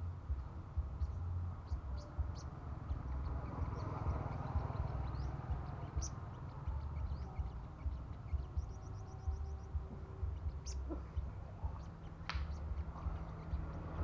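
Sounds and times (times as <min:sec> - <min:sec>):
birds chirping: 0:00.0 - 0:14.0
uneven low rumble: 0:00.0 - 0:14.0.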